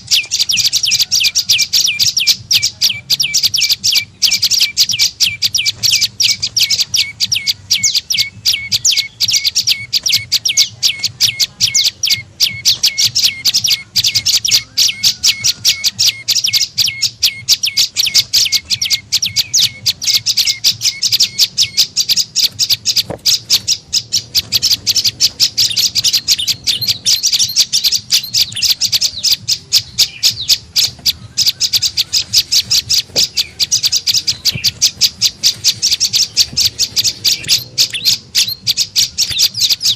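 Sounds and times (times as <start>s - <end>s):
bird chattering high notes: 0.0s - 39.9s.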